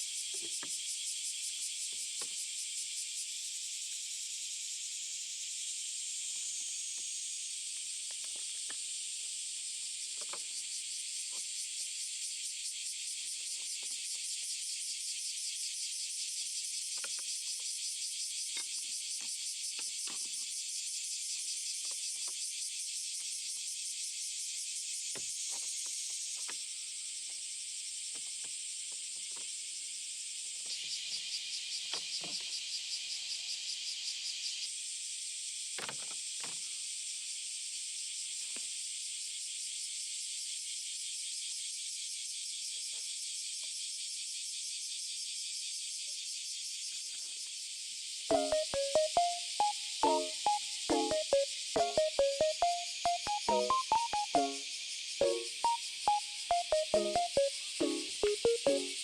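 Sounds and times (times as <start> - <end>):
insects chirring: 0.0 - 34.8, 43.7 - 59.0.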